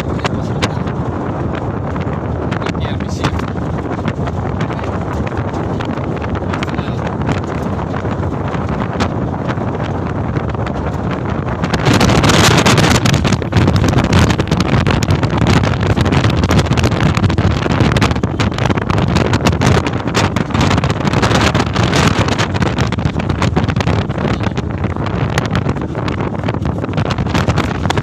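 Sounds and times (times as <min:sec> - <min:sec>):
moving truck rumble: 0:00.0 - 0:28.0
wind buffeting microphone: 0:00.0 - 0:28.0.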